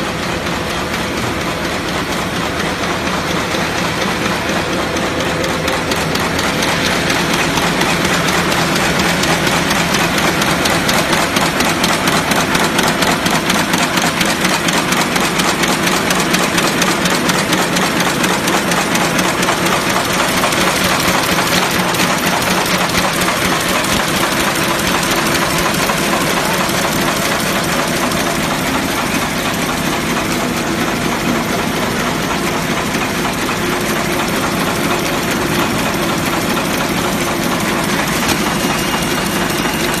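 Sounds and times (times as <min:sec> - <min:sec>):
paper bag machine clattering: 0:00.1 - 0:40.0.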